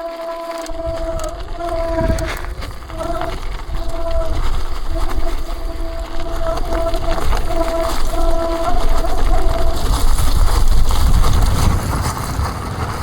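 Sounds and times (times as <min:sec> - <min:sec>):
disc brake howl: 0:00.0 - 0:13.0
rumble from rough trail: 0:00.0 - 0:13.0
wind buffeting microphone: 0:00.1 - 0:13.0.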